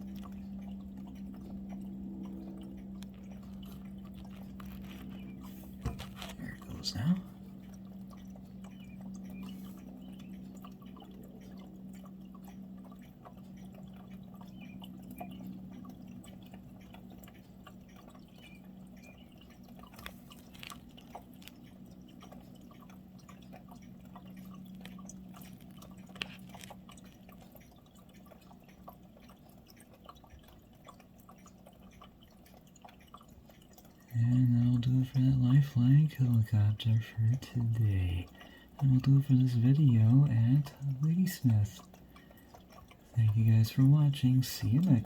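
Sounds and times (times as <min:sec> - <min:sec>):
distant helicopter hum: 0:00.0 - 0:32.2, 0:33.1 - 0:45.0
faint clicks: 0:00.0 - 0:45.0.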